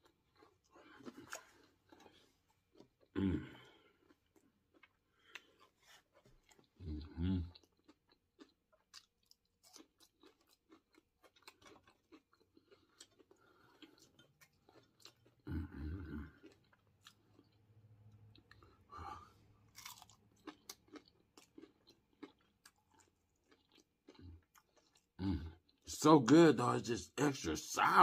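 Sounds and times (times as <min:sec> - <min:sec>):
crunchy chewing: 0:00.0 - 0:18.9, 0:19.6 - 0:25.8.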